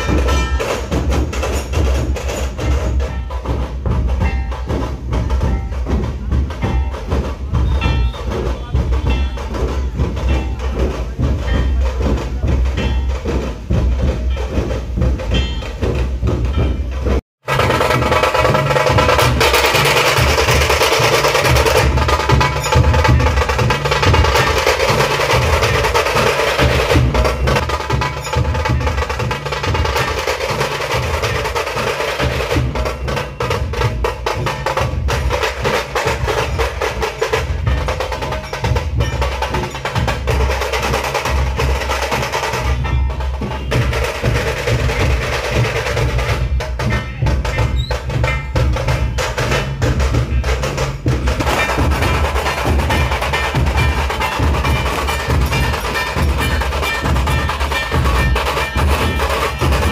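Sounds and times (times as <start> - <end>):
dhol drums beating: 0.0 - 59.9
tasha drums sharp strokes: 0.0 - 59.9.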